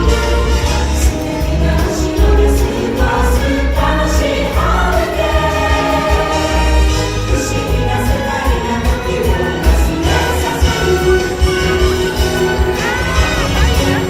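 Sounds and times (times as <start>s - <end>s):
choir singing: 0.0s - 14.0s
pulsing bass beat: 0.0s - 14.0s.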